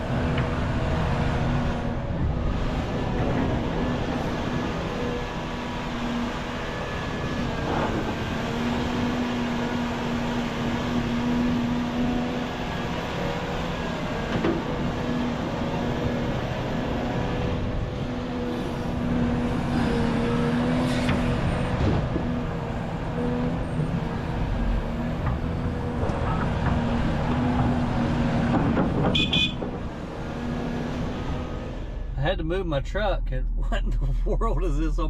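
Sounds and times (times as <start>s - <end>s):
diesel machinery engine hum: 0.0s - 35.0s.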